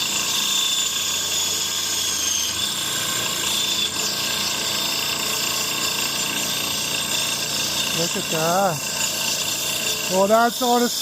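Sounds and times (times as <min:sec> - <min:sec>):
band saw whining while cutting: 0:00.0 - 0:11.0.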